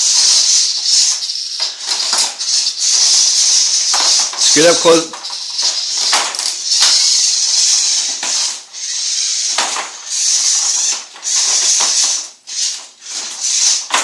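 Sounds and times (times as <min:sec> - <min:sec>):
robot motors and gears whirring: 0:00.0 - 0:14.0.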